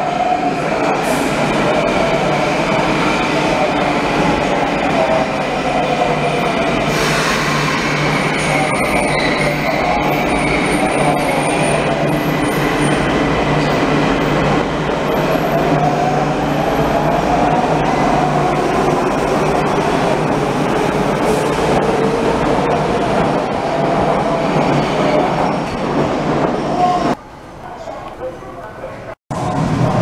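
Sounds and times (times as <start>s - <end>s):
train wheels rumbling on rail: 0.1s - 27.2s.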